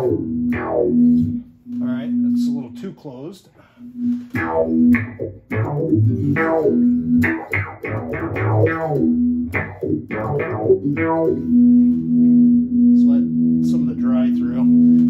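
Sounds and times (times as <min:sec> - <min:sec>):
synth-voiced electric guitar notes: 0:00.0 - 0:02.6, 0:03.8 - 0:15.0.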